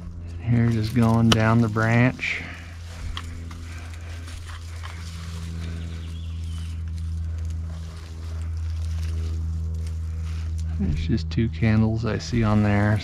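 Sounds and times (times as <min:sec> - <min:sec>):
pine branches rustling: 0:00.0 - 0:13.0
steady low machine hum: 0:00.0 - 0:13.0.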